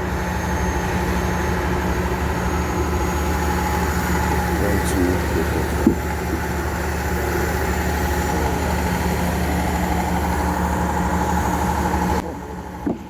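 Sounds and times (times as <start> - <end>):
heavy engine idling: 0.0 - 13.0.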